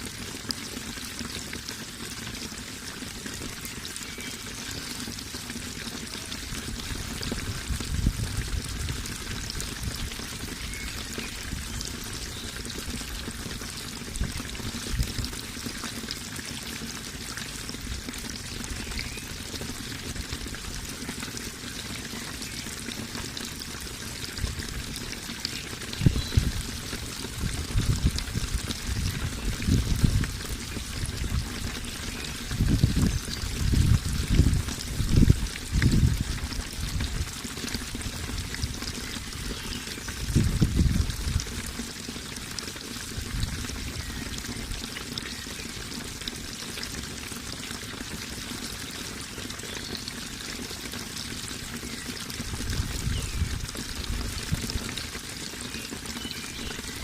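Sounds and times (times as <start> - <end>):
water flowing and splashing: 0.0 - 57.0.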